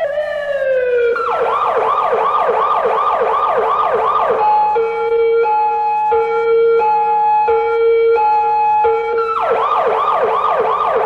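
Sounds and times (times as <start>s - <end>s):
emergency siren: 0.0s - 11.0s.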